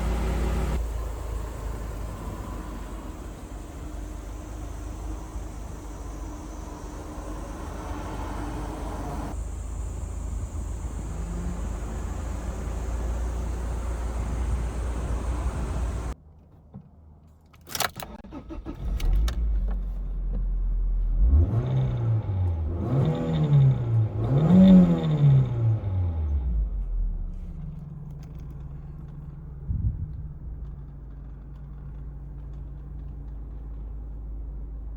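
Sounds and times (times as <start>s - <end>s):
car engine idling and revving: 0.0s - 16.2s, 18.0s - 34.9s.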